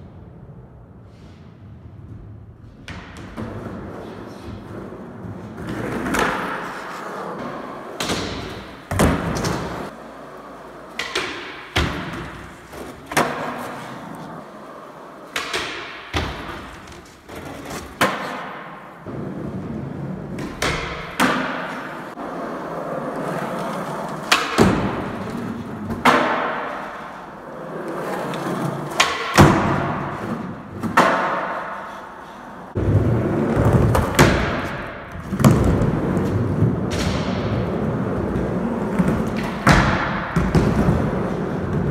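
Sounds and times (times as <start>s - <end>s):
skateboard rolling: 3.4s - 41.9s.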